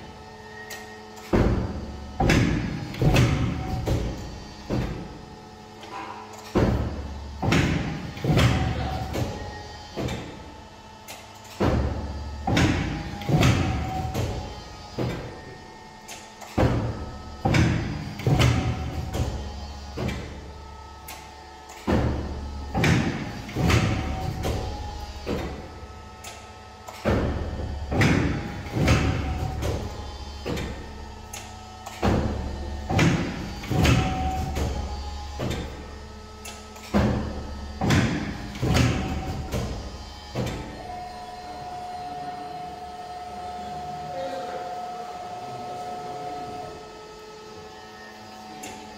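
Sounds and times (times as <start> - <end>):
low machine hum: 0.0 - 48.9
steady whine: 0.0 - 48.9
cutting machine clunks and thuds: 0.1 - 41.5.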